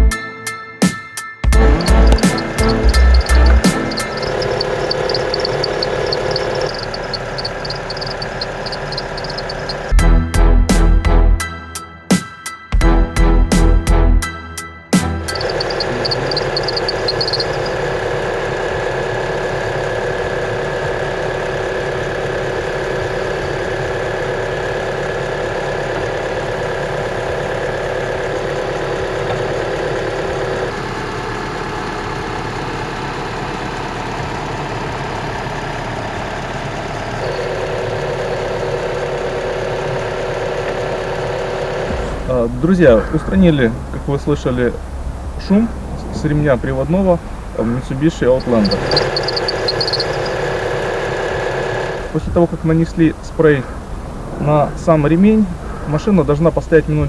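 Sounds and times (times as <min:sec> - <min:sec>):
car engine idling: 0:01.5 - 0:10.4, 0:15.0 - 0:57.0.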